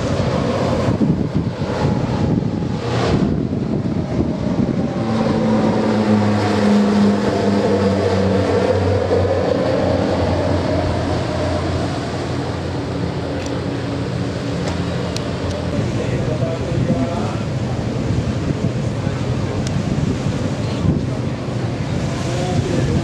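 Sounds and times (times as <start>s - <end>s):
propeller aircraft engines droning: 0.0s - 23.0s
wind buffeting microphone: 0.0s - 23.0s.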